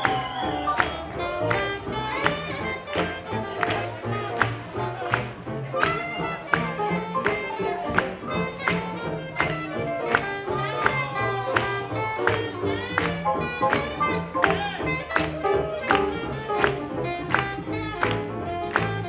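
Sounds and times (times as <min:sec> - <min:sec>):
double bass line: 0:00.0 - 0:19.0
horn melody: 0:00.0 - 0:19.0
swing jazz band playing: 0:00.0 - 0:19.0.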